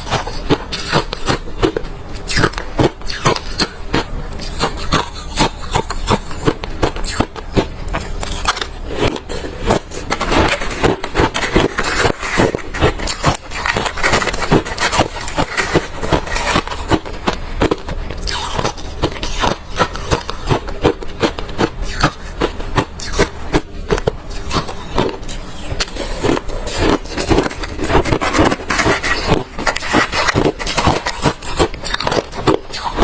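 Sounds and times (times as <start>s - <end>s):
chewing crunchy ice: 0.0s - 33.0s.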